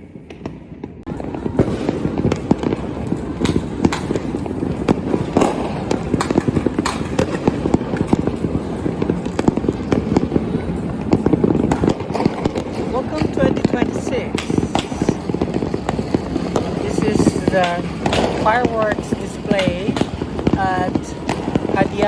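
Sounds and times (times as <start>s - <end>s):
continuous rumble: 0.0s - 22.0s
fireworks cracking and banging: 0.0s - 22.0s.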